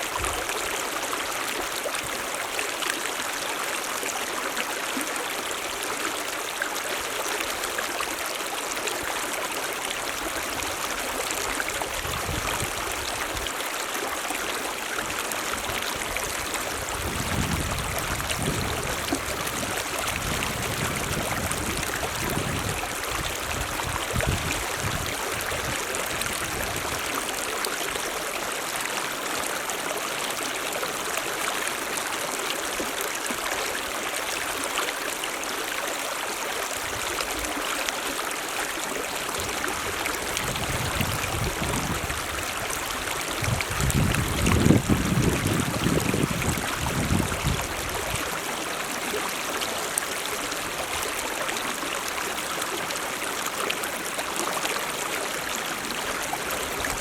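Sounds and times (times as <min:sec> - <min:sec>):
stream rushing water: 0:00.0 - 0:57.0.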